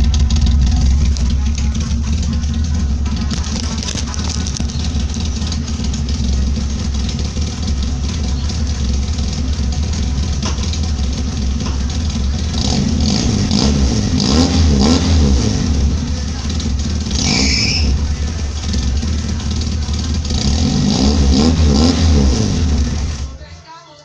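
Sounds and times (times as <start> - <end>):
car engine exhaust rumble: 0.0 - 23.6.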